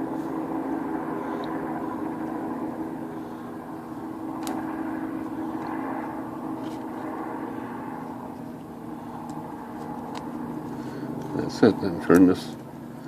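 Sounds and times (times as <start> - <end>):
droning hum of machinery: 0.0 - 13.0.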